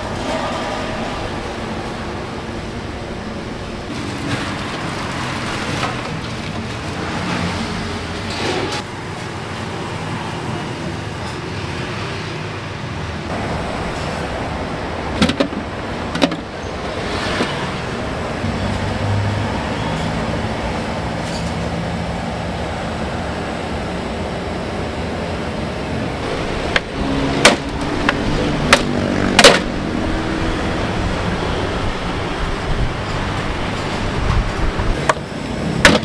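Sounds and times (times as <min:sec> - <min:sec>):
street traffic noise: 0:00.0 - 0:36.0.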